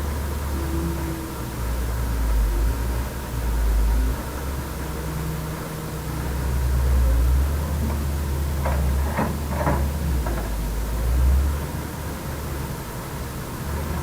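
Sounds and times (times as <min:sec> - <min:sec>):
heavy machinery engine rumbling: 0:00.0 - 0:14.0.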